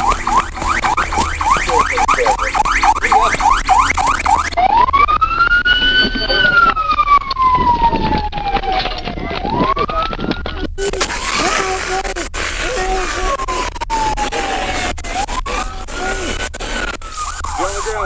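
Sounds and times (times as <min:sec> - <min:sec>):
police siren wail: 0:00.0 - 0:18.0
police siren yelp: 0:00.0 - 0:18.0.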